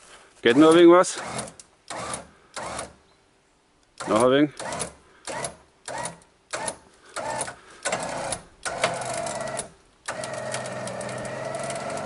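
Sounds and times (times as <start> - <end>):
electric winch motor whining: 0.6 - 3.0, 4.0 - 12.0.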